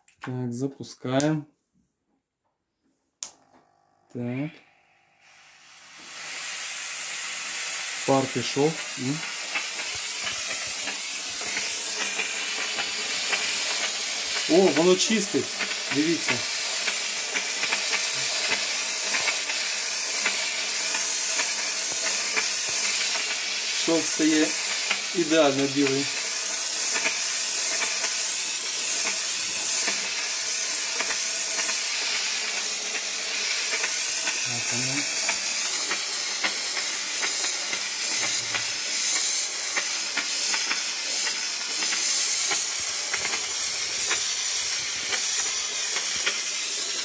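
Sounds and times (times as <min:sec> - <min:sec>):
steam nozzle hissing: 0:05.2 - 0:47.0.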